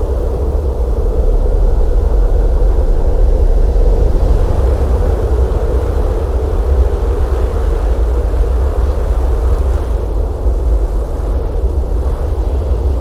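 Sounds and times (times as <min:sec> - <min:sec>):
blizzard wind howling: 0:00.0 - 0:13.0.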